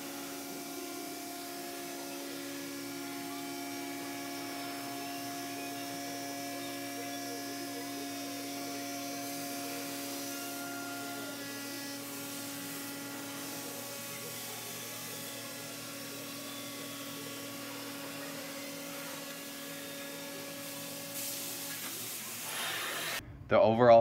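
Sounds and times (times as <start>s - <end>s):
router spindle humming: 0.0s - 23.2s.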